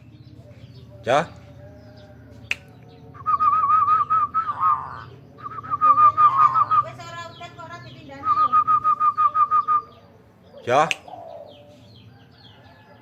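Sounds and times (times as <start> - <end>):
dove trilling song: 0.0 - 13.0.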